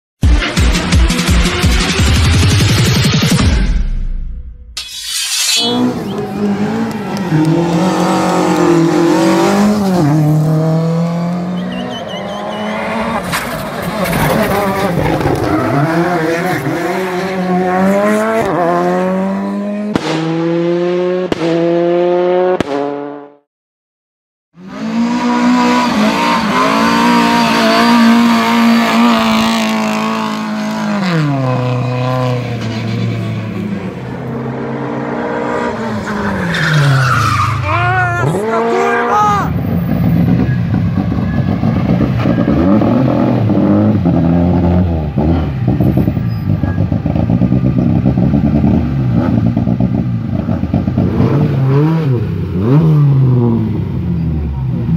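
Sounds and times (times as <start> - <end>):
rally car engine revving: 5.6 - 23.4, 24.6 - 54.9.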